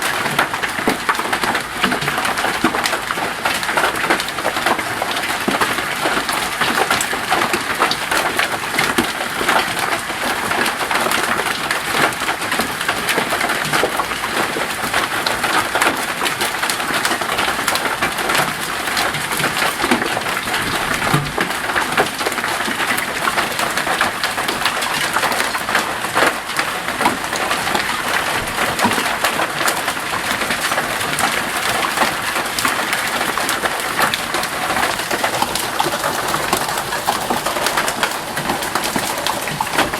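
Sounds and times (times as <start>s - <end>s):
hailstones striking hard surfaces: 0.0s - 39.9s.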